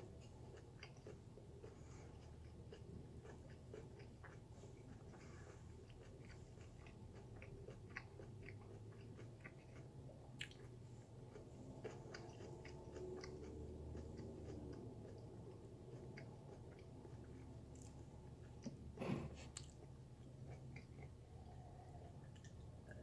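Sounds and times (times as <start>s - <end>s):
chewing crunches: 0.0s - 23.0s
low room hum: 0.0s - 23.0s.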